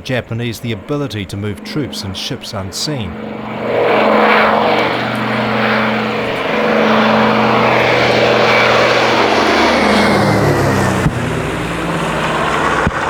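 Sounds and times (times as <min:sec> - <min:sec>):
aircraft propeller engines humming: 0:00.0 - 0:13.0.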